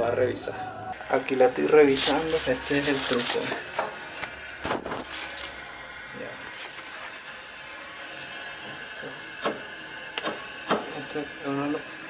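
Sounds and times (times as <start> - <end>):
gas burner flames hissing: 0.9 - 12.0.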